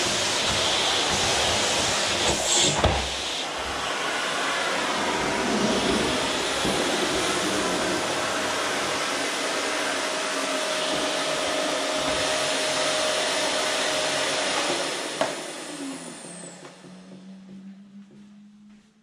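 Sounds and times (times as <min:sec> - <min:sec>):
canister vacuum cleaner running: 0:00.0 - 0:18.2.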